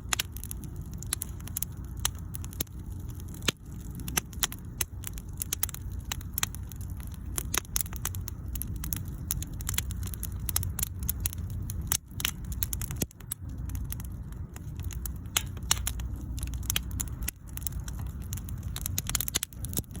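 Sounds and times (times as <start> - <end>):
bonfire pops and snaps: 0.0 - 20.0
low rumble of flames: 0.0 - 20.0.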